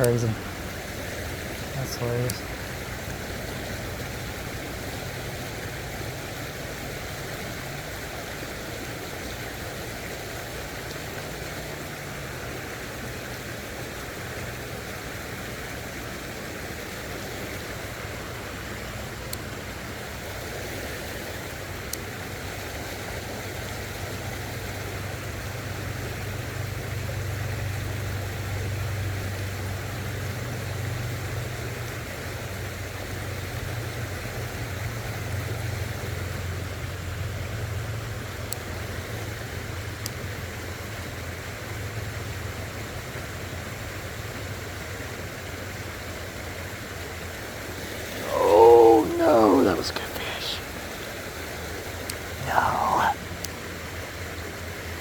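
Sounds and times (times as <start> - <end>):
creek water over rocks: 0.0 - 55.0.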